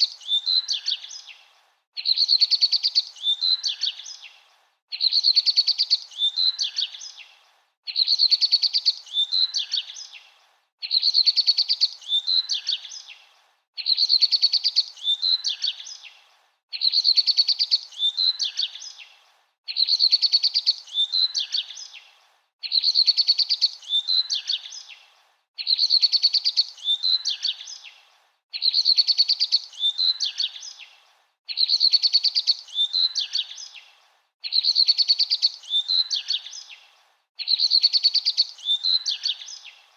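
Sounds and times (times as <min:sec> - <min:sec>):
bird song chirpy phrase: 0:00.0 - 0:39.9.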